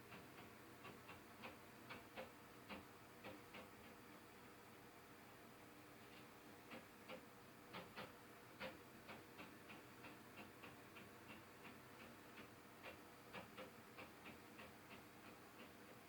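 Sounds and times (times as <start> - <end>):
faint tapping through ceiling: 0.0 - 4.1, 6.0 - 16.0.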